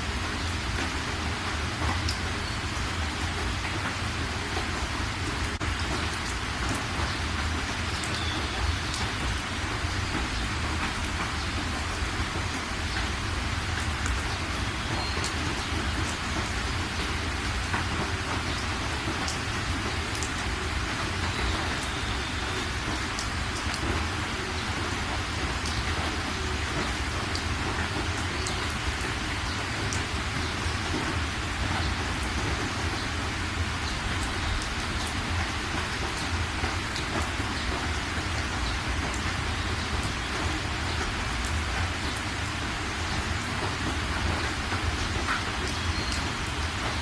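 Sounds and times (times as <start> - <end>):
steady rainfall: 0.0 - 47.0.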